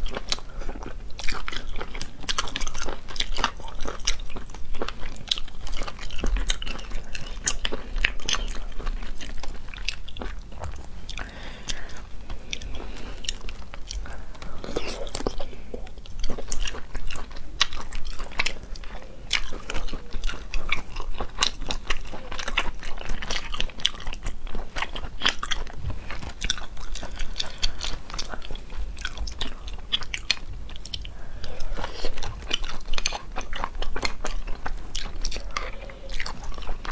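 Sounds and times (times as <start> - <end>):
close chewing and crunching: 0.0 - 36.9.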